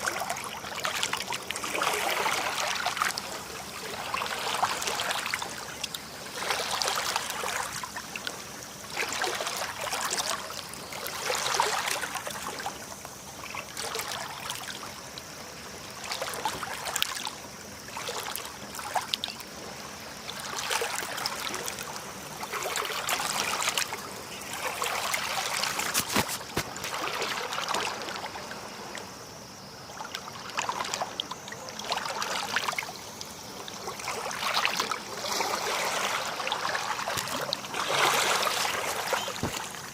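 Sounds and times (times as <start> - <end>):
small waves lapping at shore: 0.0 - 39.9.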